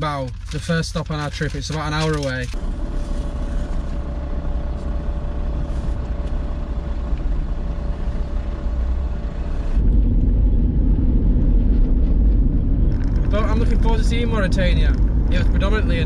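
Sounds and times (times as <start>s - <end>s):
van engine rumble: 0.0s - 16.0s.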